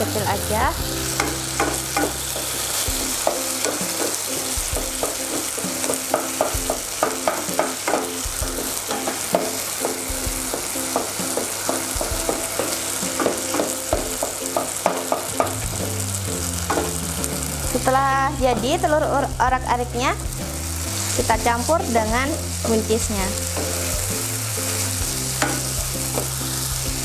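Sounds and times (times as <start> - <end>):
eggs sizzling in a pan: 0.0 - 27.0.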